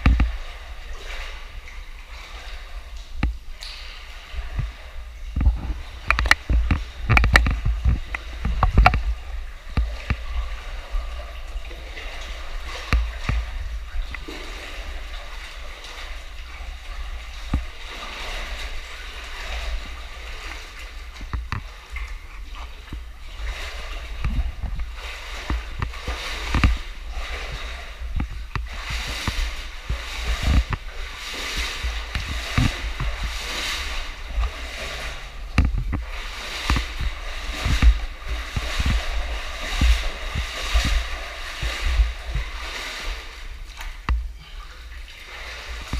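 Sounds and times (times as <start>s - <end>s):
water splashing from swimming: 0.0s - 45.9s.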